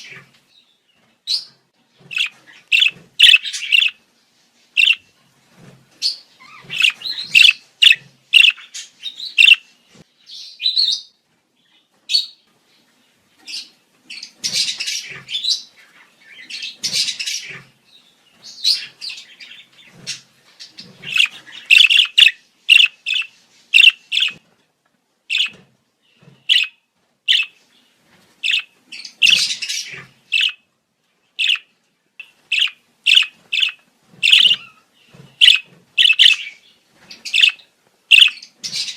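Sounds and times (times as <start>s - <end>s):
budgerigars chirping and warbling: 0.0s - 0.7s, 1.3s - 4.0s, 4.8s - 5.1s, 6.0s - 11.1s, 12.1s - 12.4s, 13.4s - 24.4s, 25.3s - 27.8s, 28.4s - 30.6s, 31.4s - 38.9s.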